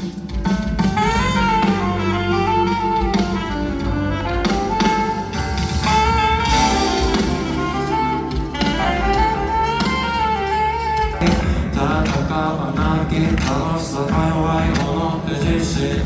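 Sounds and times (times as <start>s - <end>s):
instrumental pop band music: 0.0s - 16.0s.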